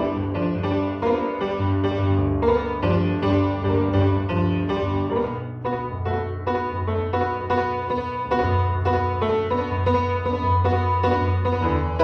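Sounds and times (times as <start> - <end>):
piano instrumental music: 0.0 - 12.0.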